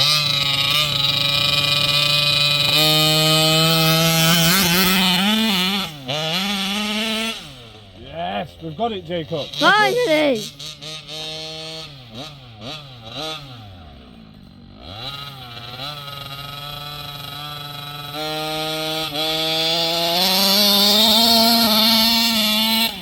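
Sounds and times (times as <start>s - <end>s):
two-stroke rc car engine revving: 0.0s - 23.0s.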